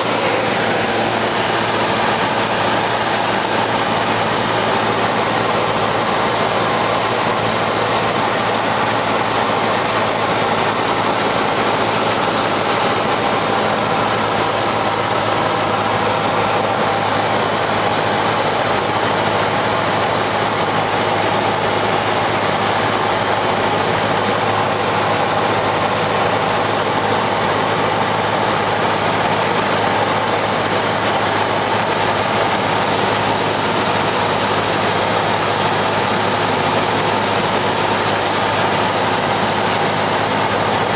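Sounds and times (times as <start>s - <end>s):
airplane engine droning: 0.0s - 40.9s.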